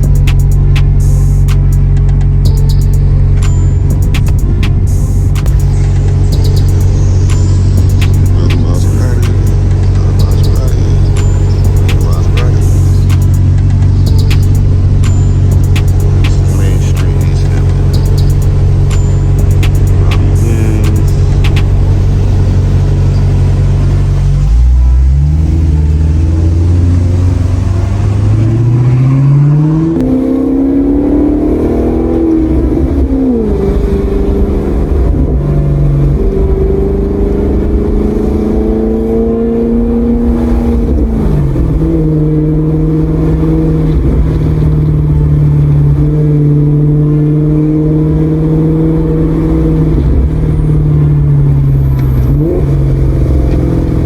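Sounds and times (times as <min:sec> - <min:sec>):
car engine accelerating through gears: 0:00.0 - 0:54.0.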